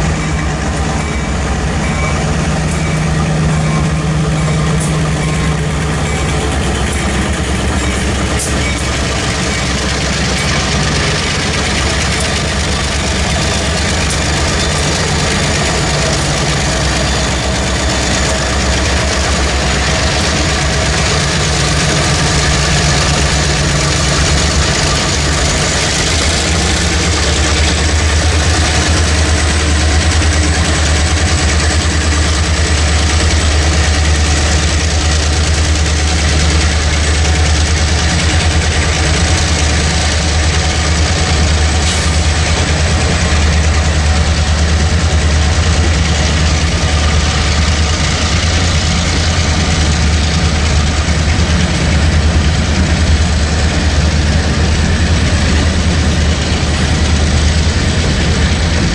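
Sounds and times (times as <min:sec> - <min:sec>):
diesel locomotive passing: 0:00.0 - 0:58.9
train wheels rumbling on rails: 0:00.0 - 0:58.9.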